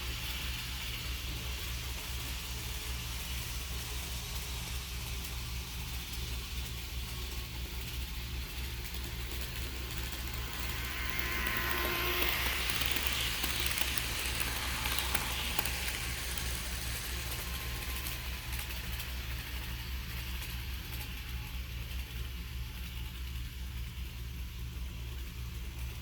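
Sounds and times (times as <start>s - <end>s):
model train electric hum: 0.0s - 26.0s
wheels rolling on rails: 0.0s - 26.0s.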